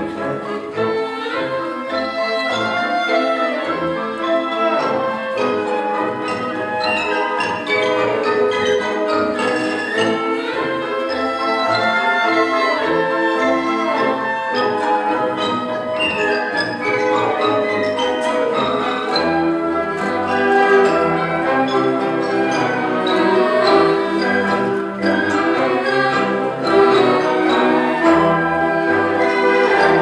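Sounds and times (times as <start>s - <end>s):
orchestral music: 0.0s - 30.0s
bell-like mallet percussion: 2.1s - 30.0s.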